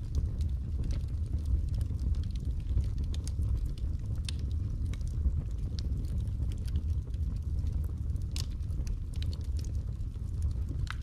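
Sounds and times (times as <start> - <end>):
low rumble of fire: 0.0 - 11.0
wood crackling and popping: 0.0 - 11.0.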